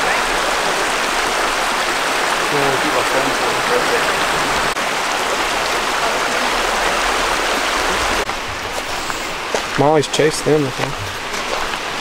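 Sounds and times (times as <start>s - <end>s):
creek running over stones: 0.0s - 12.0s.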